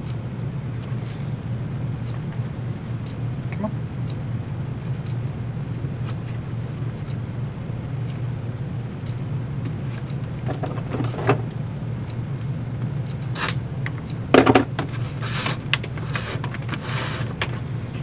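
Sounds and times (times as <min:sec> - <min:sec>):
shop machinery humming: 0:00.0 - 0:18.0.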